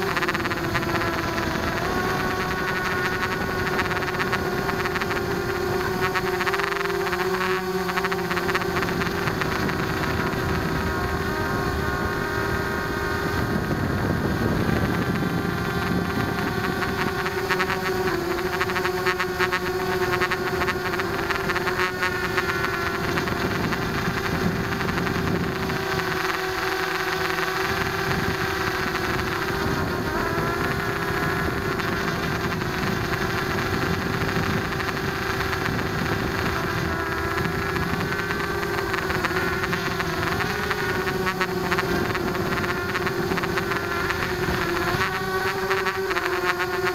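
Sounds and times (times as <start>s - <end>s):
quadcopter propellers whining: 0.0s - 46.9s.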